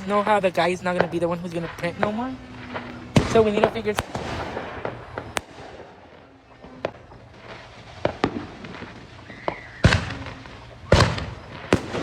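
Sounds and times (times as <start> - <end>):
fireworks bangs: 0.0 - 12.0
rumble of fireworks: 0.0 - 12.0.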